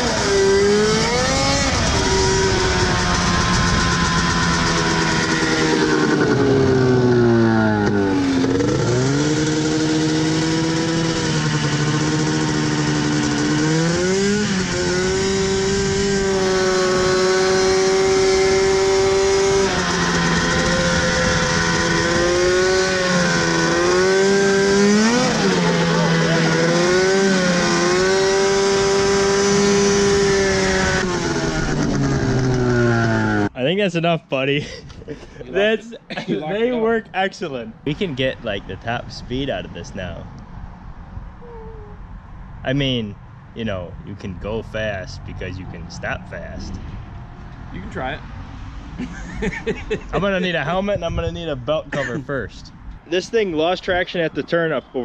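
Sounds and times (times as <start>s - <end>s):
utility vehicle engine revving: 0.0s - 33.6s, 35.2s - 54.1s.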